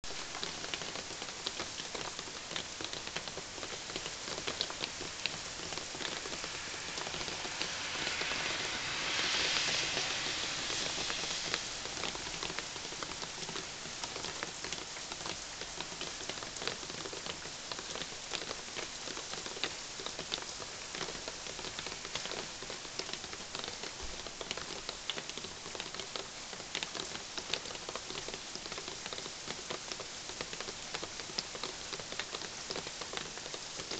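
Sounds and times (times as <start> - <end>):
rain hiss: 0.0 - 33.9.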